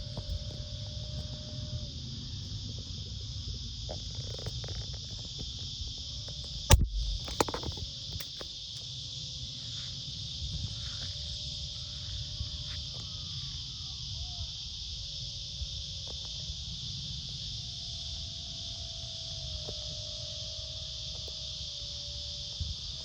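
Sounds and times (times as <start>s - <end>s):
wind rumble on microphone: 0.0s - 8.4s, 10.0s - 23.0s
high-pitched insect chorus: 0.0s - 23.0s.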